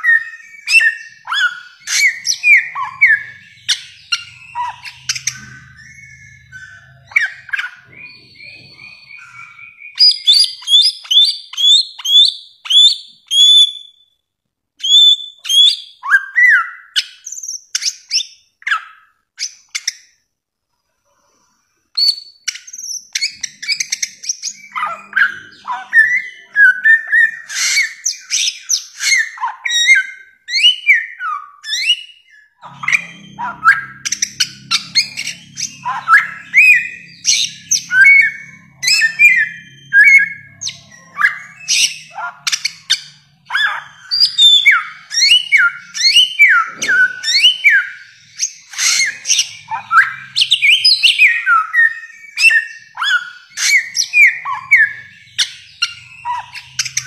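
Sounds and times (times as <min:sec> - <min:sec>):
bird whistling and chirping: 0:00.0 - 0:14.1, 0:14.8 - 0:20.1, 0:22.0 - 0:57.0.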